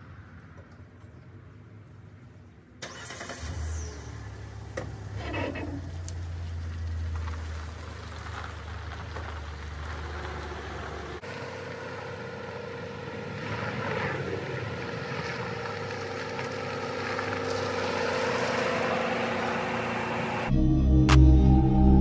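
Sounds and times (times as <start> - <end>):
truck tyres on road: 0.0 - 20.5
truck engine running: 4.1 - 21.9.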